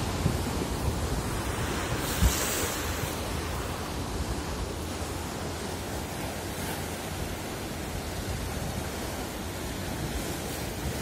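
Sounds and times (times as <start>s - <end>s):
rough sea water churning: 0.0s - 11.0s
wind buffeting microphone: 0.0s - 11.0s.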